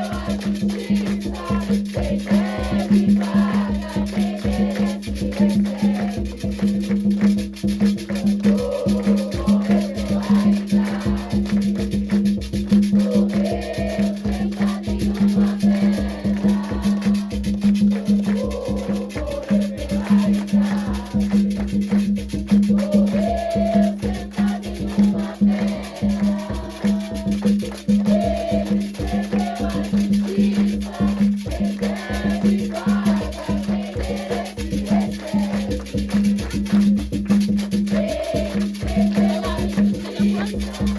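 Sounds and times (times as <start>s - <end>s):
voices singing a melody: 0.0s - 6.8s, 8.1s - 11.9s, 12.9s - 21.6s, 22.5s - 36.1s, 37.7s - 40.9s
fast hand percussion: 0.0s - 40.9s.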